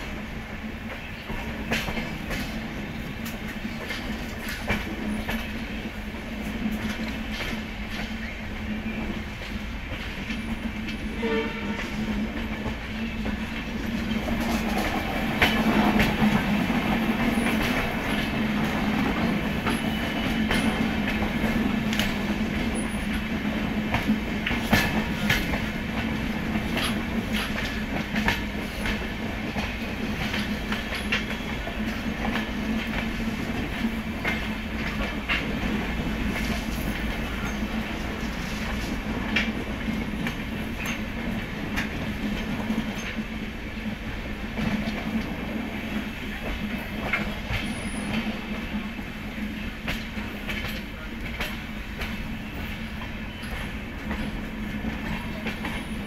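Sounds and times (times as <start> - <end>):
train wheels clattering over joints: 0.0 - 56.0.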